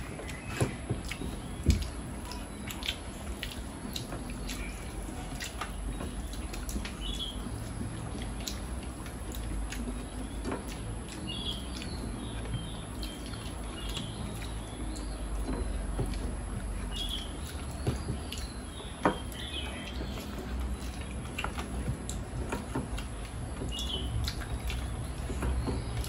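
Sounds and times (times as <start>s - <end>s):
chewing: 0.0s - 26.0s
fingers mixing food on plates: 0.0s - 26.0s.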